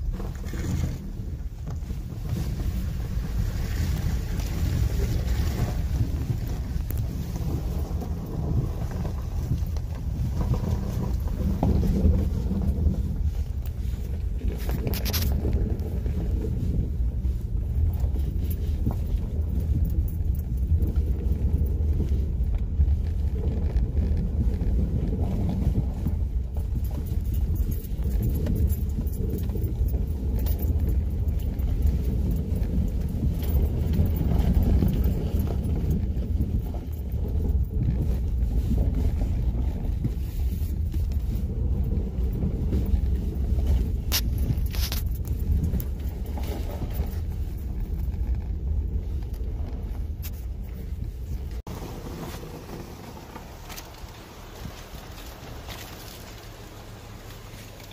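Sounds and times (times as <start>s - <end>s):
low rumble of tyres and drivetrain: 0.0s - 57.9s.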